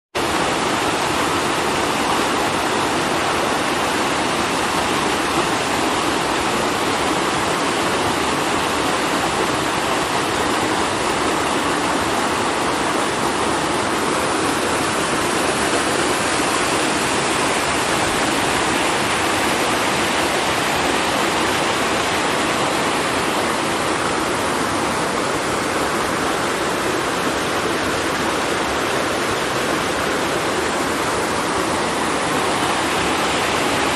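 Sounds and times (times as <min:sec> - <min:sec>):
waterfall and stream over rocks: 0:00.2 - 0:33.9.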